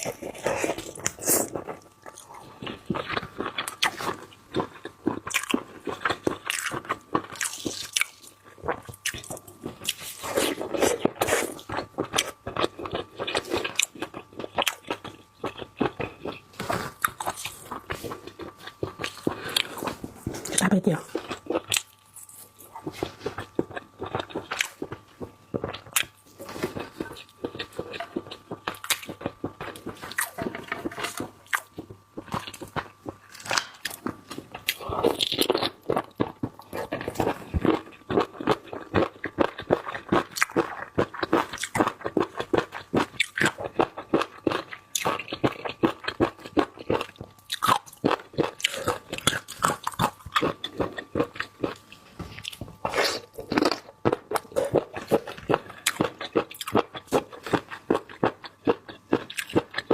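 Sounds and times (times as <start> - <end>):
seafood being crunched and chewed: 0.0 - 59.9.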